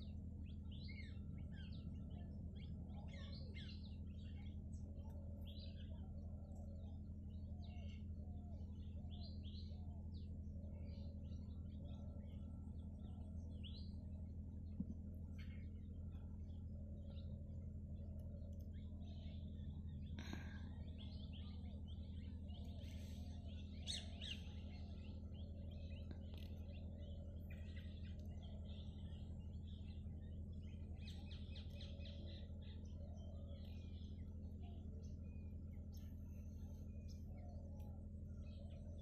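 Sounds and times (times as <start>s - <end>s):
small birds chirping: 0.0s - 39.0s
steady low hum: 0.0s - 39.0s.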